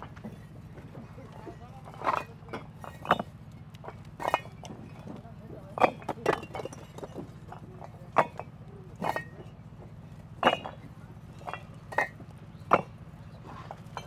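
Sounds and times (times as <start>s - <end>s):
bricks clinking together: 0.0s - 9.6s, 10.4s - 14.0s
steady low hum: 0.0s - 14.0s.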